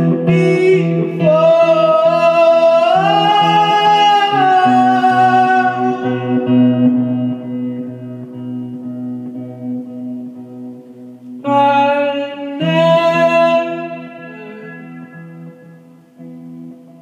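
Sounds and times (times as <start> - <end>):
guitar repeating low notes: 0.0 - 17.0.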